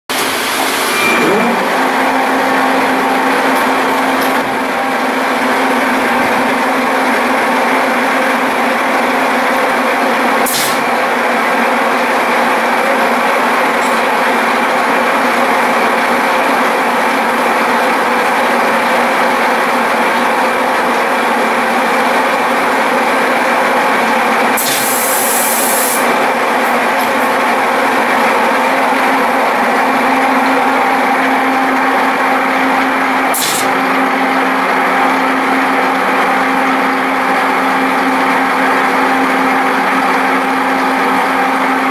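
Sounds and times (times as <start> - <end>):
lathe humming with whine: 0.2 - 24.6, 26.0 - 41.9.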